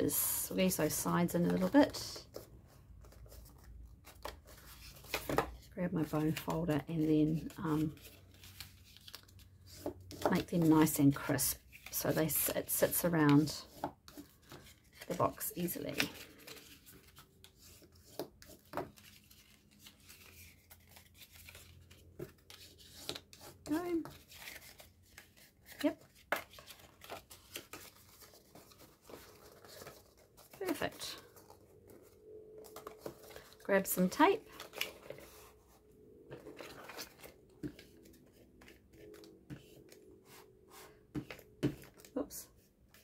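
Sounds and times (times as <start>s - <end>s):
cardstock rustling: 0.6s - 43.0s.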